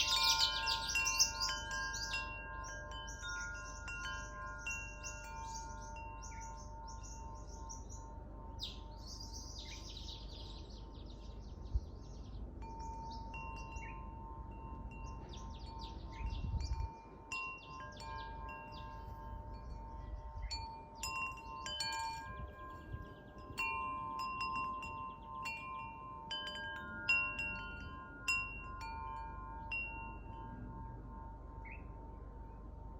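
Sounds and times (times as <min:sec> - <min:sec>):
wind chimes ringing: 0:00.0 - 0:11.7, 0:12.4 - 0:32.9
birds chirping: 0:00.0 - 0:30.4.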